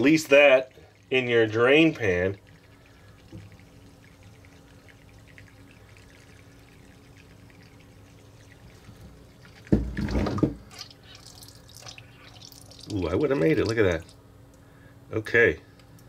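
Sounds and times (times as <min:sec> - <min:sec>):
water trickling into a pan: 0:00.0 - 0:14.2.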